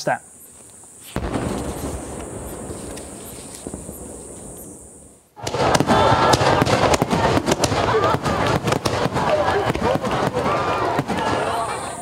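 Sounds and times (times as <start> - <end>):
crackling firework pops: 0.6 - 12.0.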